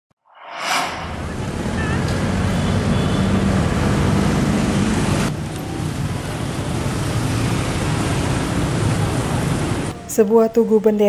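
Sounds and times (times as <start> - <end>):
rumble of passing vehicles: 0.6 - 10.9.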